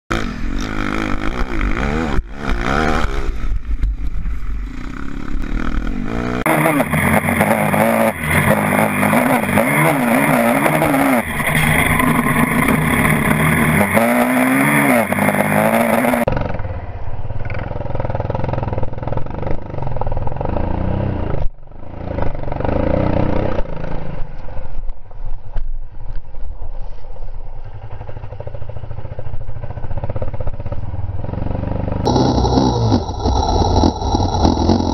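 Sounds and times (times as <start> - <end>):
dirt bike engine revving: 0.1 - 16.8, 17.4 - 24.4, 28.0 - 34.9.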